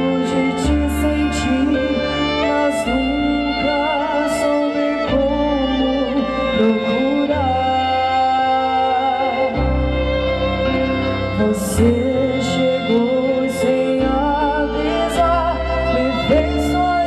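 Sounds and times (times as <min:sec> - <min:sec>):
slow song with singer: 0:00.0 - 0:17.0.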